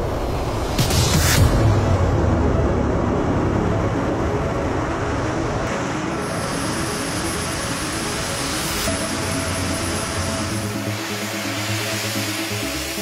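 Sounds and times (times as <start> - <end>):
jet turbines roaring: 0.0 - 13.0.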